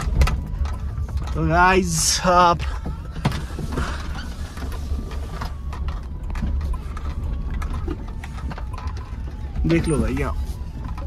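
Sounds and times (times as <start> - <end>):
car body rattling: 0.0 - 11.0
car engine and road rumble: 0.0 - 11.0.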